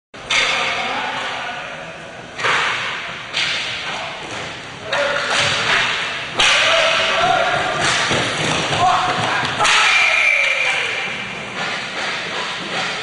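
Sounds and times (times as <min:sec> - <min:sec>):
hockey stick hitting ball: 0:02.4 - 0:13.0.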